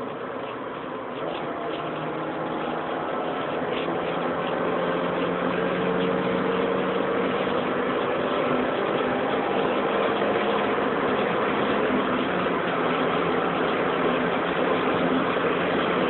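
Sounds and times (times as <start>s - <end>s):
car engine drone: 0.0s - 16.0s
road and wind noise: 0.0s - 16.0s.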